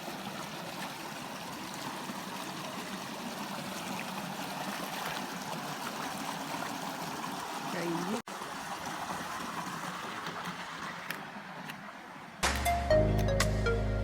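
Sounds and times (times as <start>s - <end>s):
flowing water rushing: 0.0s - 12.5s.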